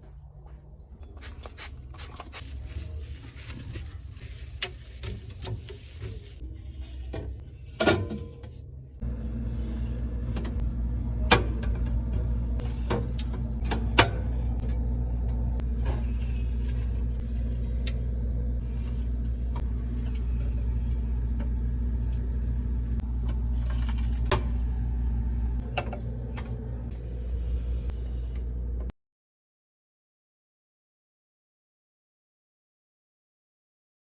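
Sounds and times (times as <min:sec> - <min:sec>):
fridge low hum: 0:00.0 - 0:28.9.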